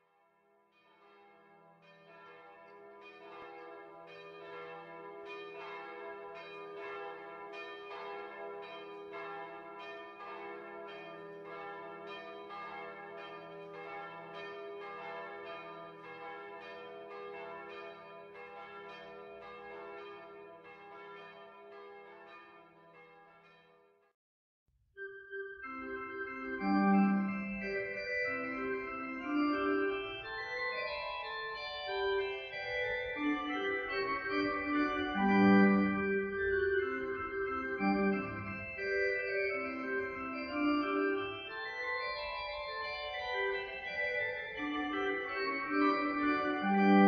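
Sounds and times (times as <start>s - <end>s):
church bells ringing: 0.8s - 23.8s, 25.3s - 47.0s.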